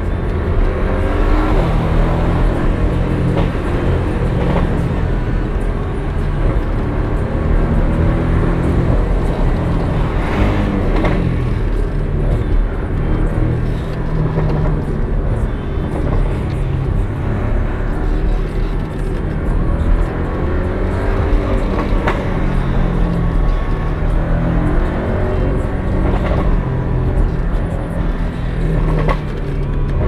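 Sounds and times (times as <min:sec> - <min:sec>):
car engine from inside cabin: 0:00.0 - 0:30.0
road noise: 0:00.0 - 0:30.0.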